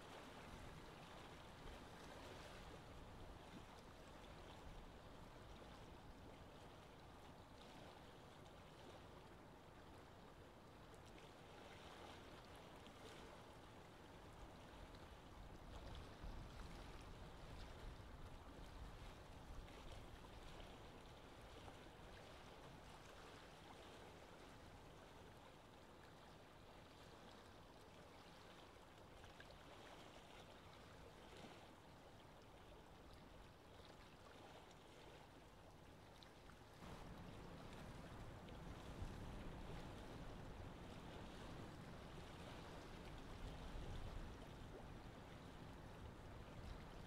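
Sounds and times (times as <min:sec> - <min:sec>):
choppy sea water rushing: 0:00.0 - 0:47.0.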